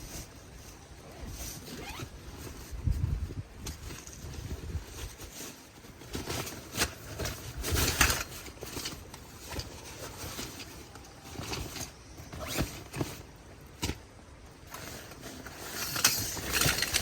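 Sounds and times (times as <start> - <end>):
gear rustling and clicking: 0.0 - 17.0.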